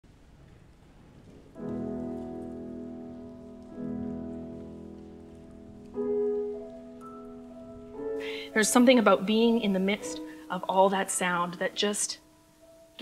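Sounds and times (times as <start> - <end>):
faint hiss: 0.1 - 13.0
piano chords: 0.1 - 13.0.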